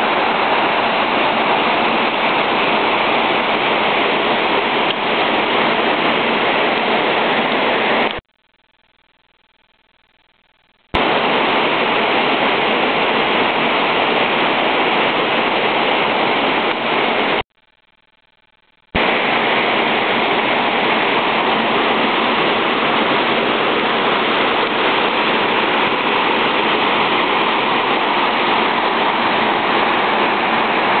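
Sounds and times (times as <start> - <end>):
waterfall rushing over boulders: 0.0 - 8.2, 11.0 - 17.4, 19.0 - 31.0.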